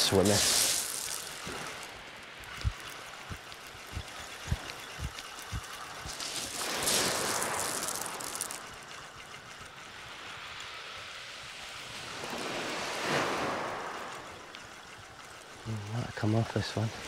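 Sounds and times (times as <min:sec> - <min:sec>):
waves washing on shingle beach: 0:00.0 - 0:17.0.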